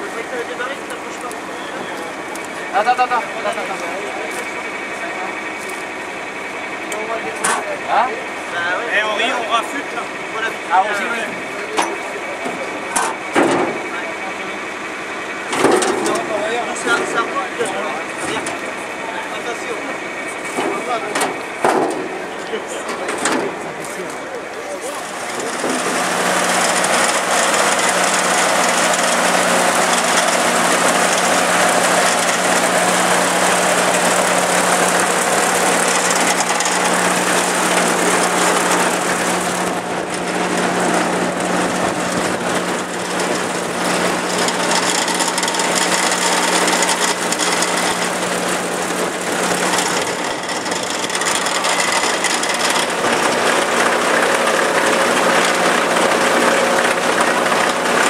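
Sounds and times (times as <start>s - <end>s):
forage harvester mechanical drone: 0.0s - 58.0s.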